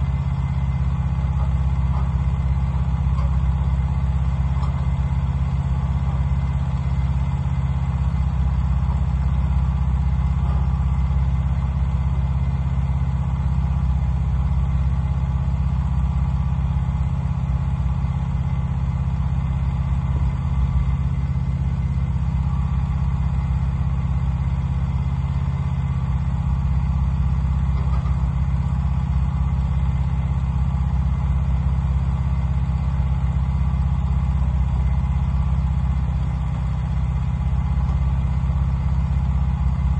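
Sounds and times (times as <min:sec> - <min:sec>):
band sawmill engine running: 0:00.0 - 0:39.9.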